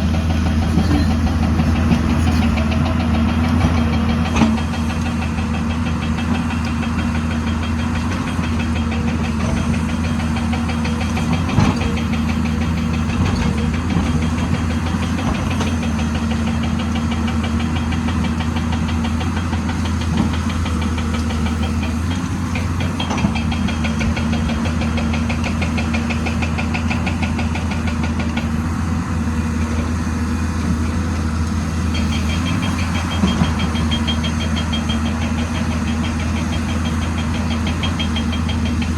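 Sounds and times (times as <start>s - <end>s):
excavator diesel engine rattling: 0.0s - 38.9s.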